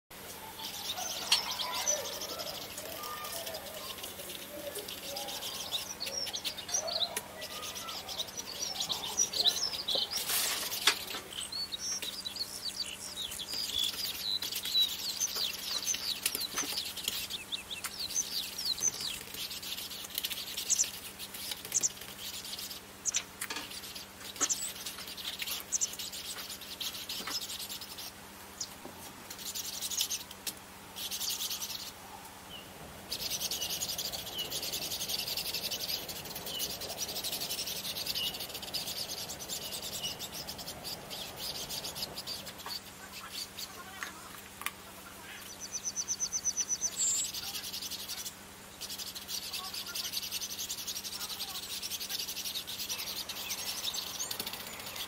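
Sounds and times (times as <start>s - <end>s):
birds chirping and singing: 0.1s - 55.0s.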